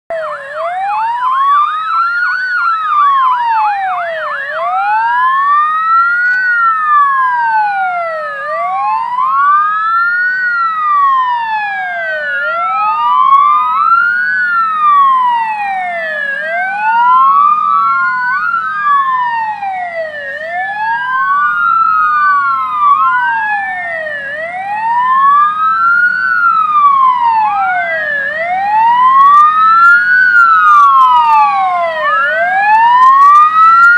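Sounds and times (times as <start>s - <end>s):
fire truck sirens wailing: 0.1s - 33.9s
truck engine rumble: 0.1s - 33.9s.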